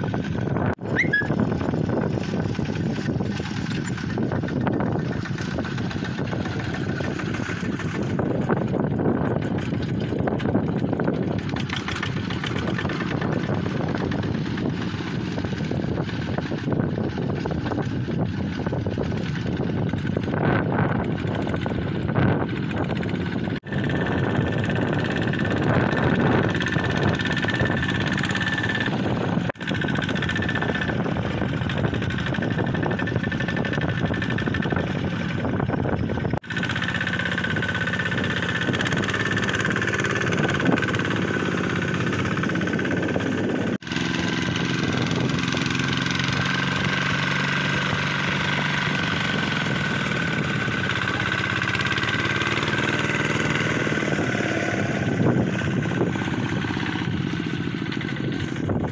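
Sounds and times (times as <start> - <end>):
walking tractor diesel engine: 0.0 - 58.9.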